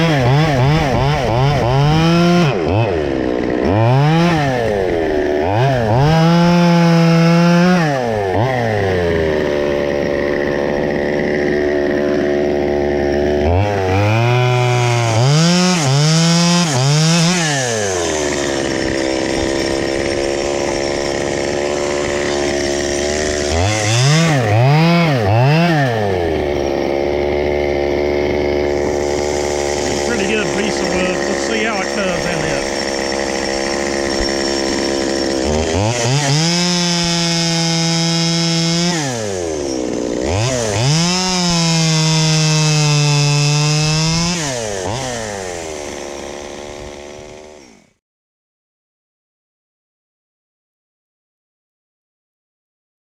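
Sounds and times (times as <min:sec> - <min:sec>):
chainsaw engine revving: 0:00.0 - 0:48.0.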